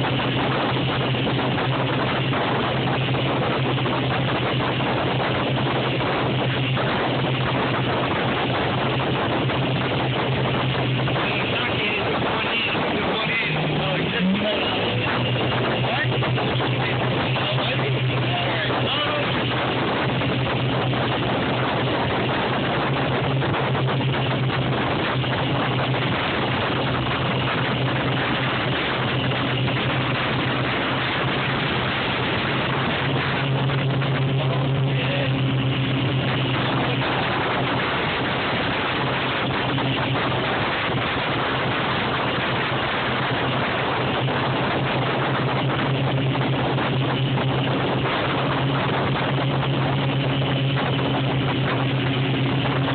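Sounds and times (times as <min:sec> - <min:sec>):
motorboat engine droning: 0:00.0 - 0:52.9
rushing water noise: 0:00.0 - 0:52.9.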